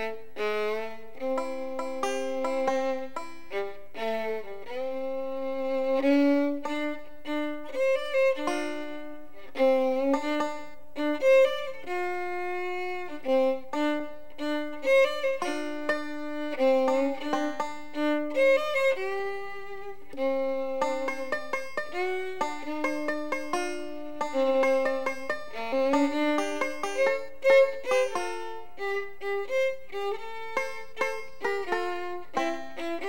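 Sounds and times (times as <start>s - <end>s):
fiddle playing lively tune: 0.0s - 33.0s
plucked string accompaniment: 0.0s - 33.0s.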